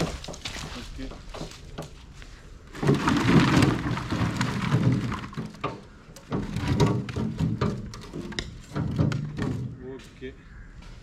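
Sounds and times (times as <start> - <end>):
coconuts tumbling onto a pile: 0.0 - 2.1, 2.7 - 10.1.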